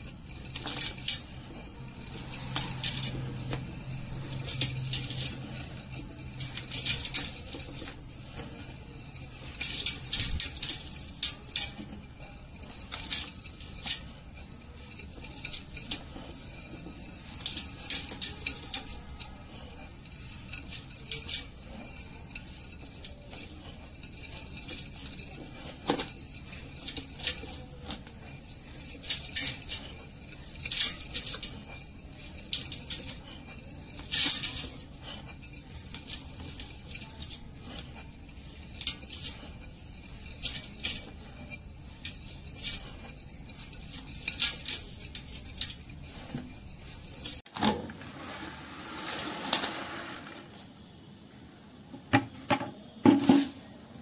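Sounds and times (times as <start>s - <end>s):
sand grains crackling against pot: 0.0s - 54.0s.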